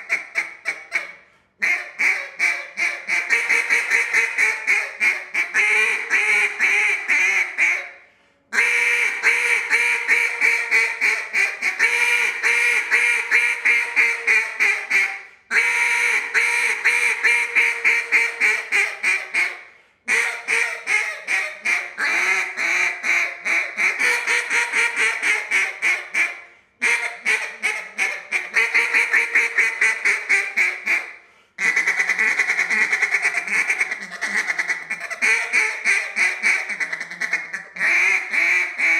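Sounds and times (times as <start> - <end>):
duck call quacks: 0.0 - 38.9.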